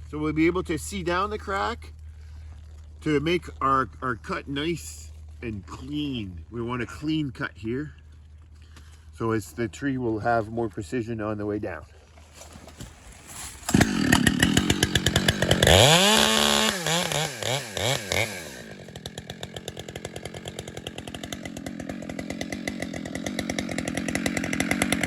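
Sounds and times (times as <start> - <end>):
chainsaw revving and idling: 0.0 - 9.6, 13.3 - 25.0.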